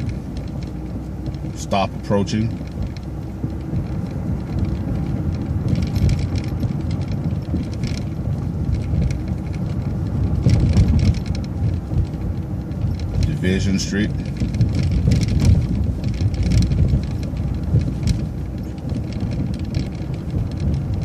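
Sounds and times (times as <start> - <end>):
bus engine and road rumble: 0.0 - 21.0
hissy rattly noises: 0.0 - 21.0.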